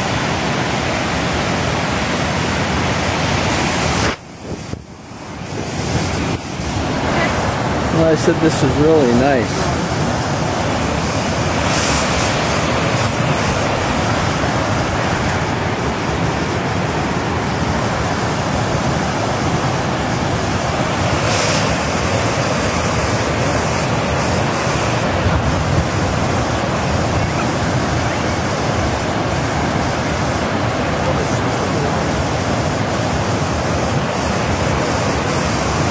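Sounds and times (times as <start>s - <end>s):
water rushing over dam spillway: 0.0s - 35.9s.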